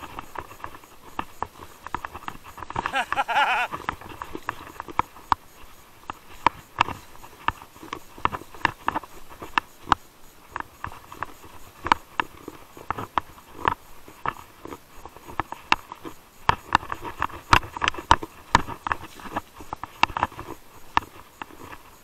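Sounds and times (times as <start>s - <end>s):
bike rattling over gravel: 0.0s - 22.0s
faint rolling hiss: 0.0s - 22.0s.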